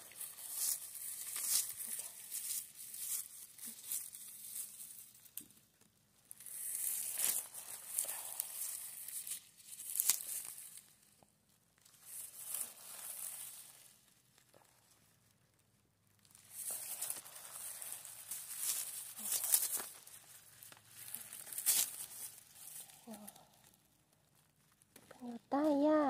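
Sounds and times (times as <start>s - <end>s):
dry grass and leaves rustling: 0.0s - 11.2s, 11.8s - 26.0s.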